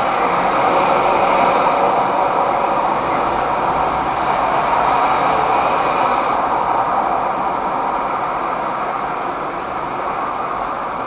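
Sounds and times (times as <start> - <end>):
muffled road traffic rumble: 0.0 - 11.0.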